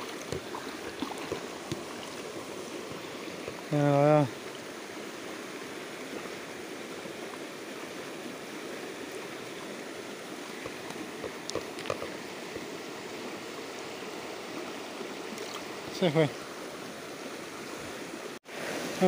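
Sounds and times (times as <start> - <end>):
river water rushing over rocks: 0.0 - 19.0.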